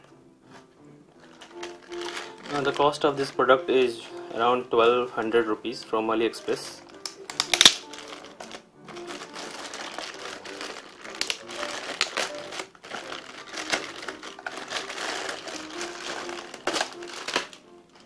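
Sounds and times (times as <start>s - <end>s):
plastic bag crinkling: 1.2s - 4.6s, 6.4s - 18.0s.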